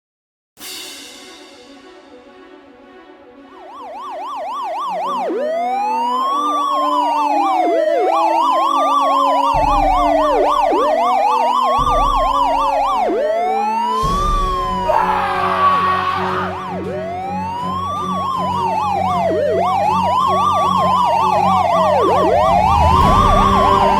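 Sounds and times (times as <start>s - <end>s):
police siren wailing: 3.4s - 23.9s
police siren yelping: 3.5s - 23.9s.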